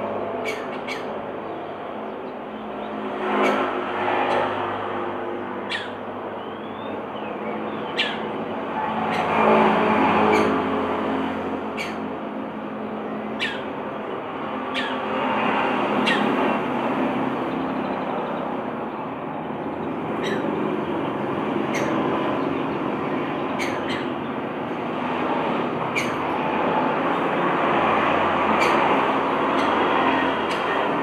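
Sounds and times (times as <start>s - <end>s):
loud steady rushing noise: 0.0s - 31.0s.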